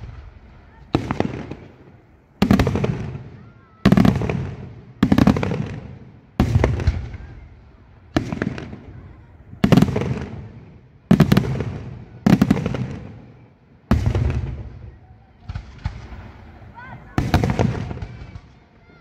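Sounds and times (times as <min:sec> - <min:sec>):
fireworks bursting with echo: 0:00.0 - 0:19.0.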